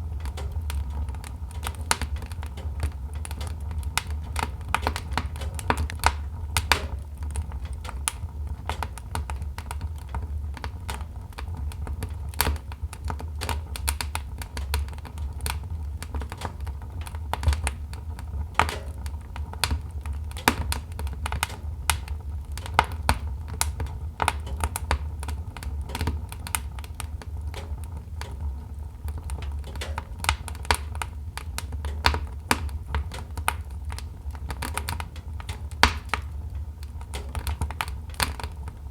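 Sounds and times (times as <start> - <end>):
logs crackling and popping: 0.0 - 38.9
low rumble of flames: 0.0 - 38.9.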